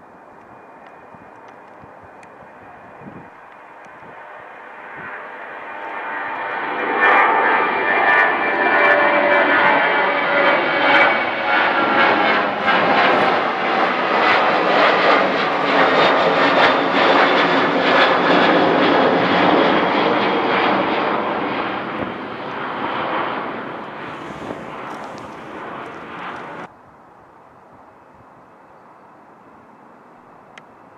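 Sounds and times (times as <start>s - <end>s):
jet engines roaring: 0.0s - 27.5s.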